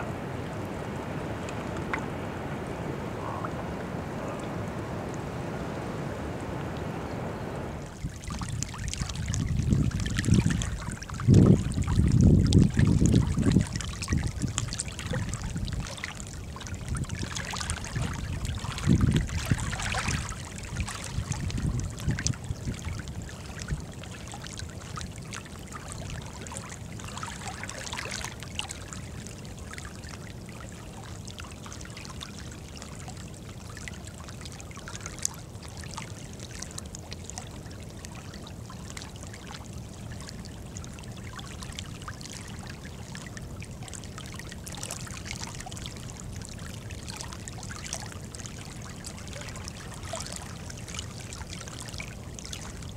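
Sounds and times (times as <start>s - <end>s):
wavelets lapping among rocks: 0.0s - 52.9s.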